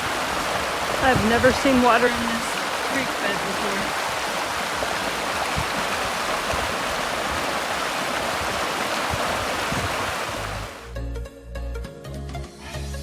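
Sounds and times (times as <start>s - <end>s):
water rushing along creek bed: 0.0s - 10.9s.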